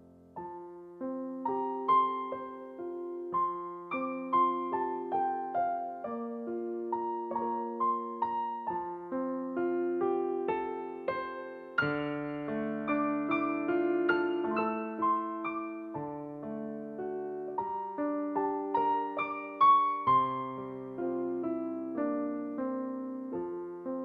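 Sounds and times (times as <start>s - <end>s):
gentle solo piano music: 0.0s - 24.0s.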